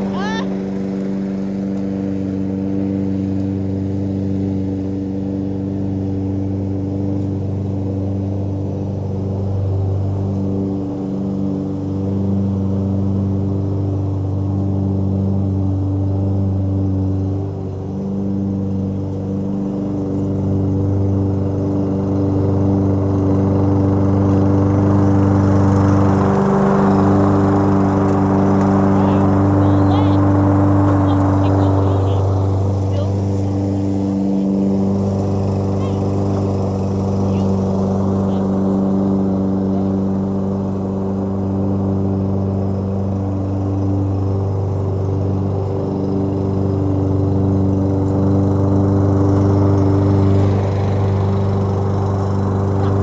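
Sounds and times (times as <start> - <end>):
lawn mower engine running: 0.0 - 53.0.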